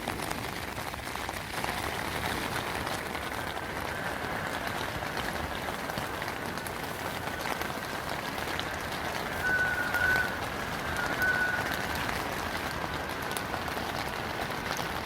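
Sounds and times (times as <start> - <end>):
heavy rain hissing: 0.0 - 15.0
raindrop hits: 0.0 - 15.0.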